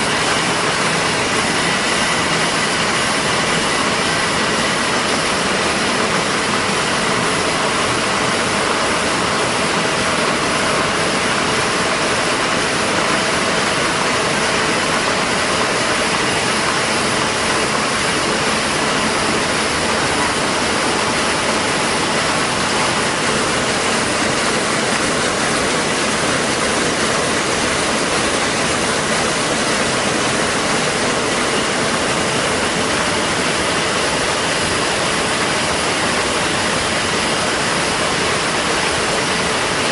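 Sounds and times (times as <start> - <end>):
machine hissing and whirring: 0.0 - 39.9.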